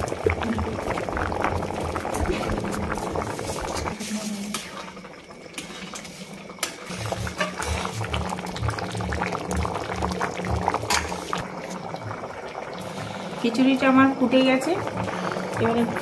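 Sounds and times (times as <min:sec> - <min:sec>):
porridge boiling and bubbling: 0:00.0 - 0:16.0.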